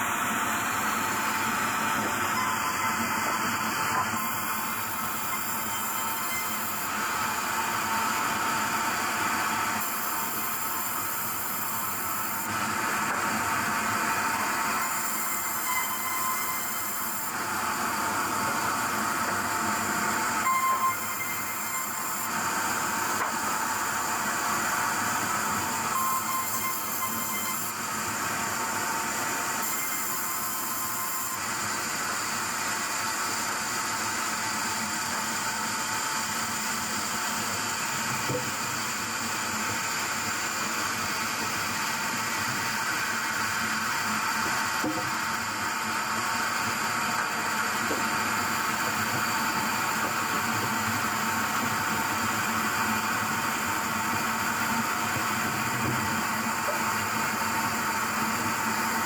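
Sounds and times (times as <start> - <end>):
sawmill machinery whine and hiss: 0.0 - 59.0.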